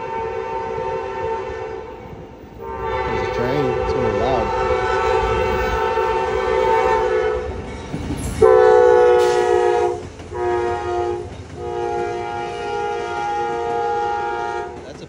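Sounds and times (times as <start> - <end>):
train air horn blasts: 0.0 - 7.6, 8.4 - 14.9
passing train rumble: 0.0 - 15.0.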